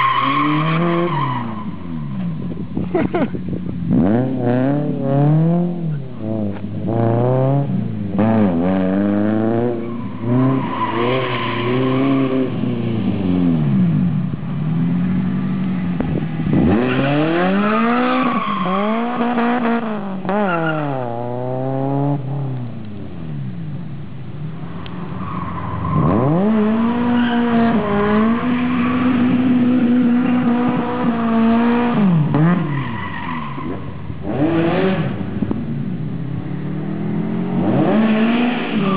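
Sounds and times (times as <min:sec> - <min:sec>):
car engine revving: 0:00.0 - 0:23.6, 0:24.6 - 0:38.9.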